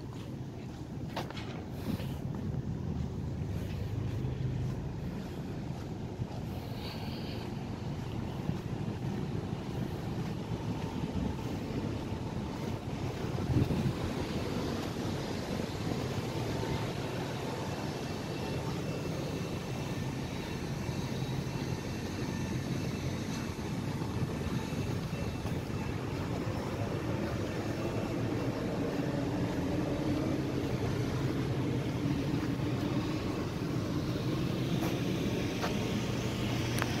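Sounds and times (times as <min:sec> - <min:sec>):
low drone: 0:00.0 - 0:37.0
ship machinery and ventilation hum: 0:00.0 - 0:37.0.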